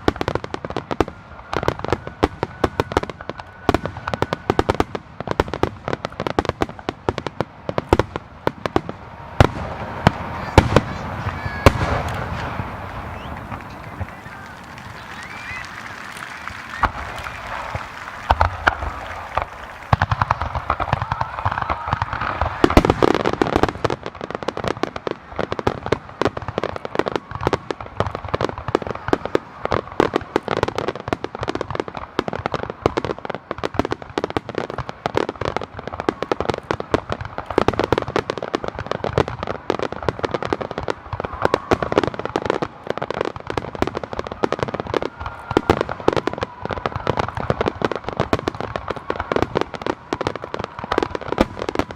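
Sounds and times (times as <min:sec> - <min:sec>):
fireworks popping and crackling: 0:00.0 - 0:51.9.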